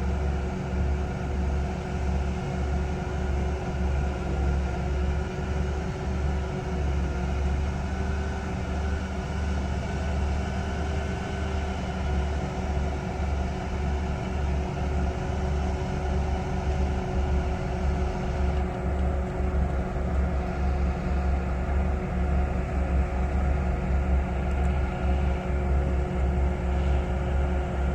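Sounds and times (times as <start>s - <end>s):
heavy diesel machinery rumbling: 0.0s - 27.9s.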